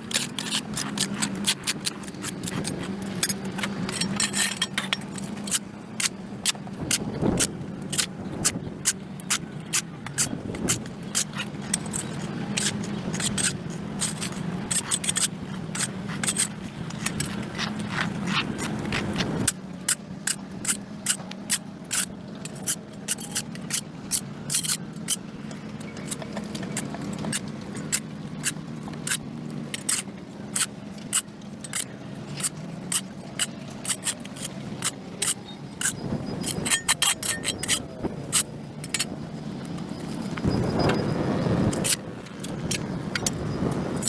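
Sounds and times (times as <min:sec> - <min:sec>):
hand tool scraping concrete: 0:00.0 - 0:25.2, 0:25.9 - 0:39.1.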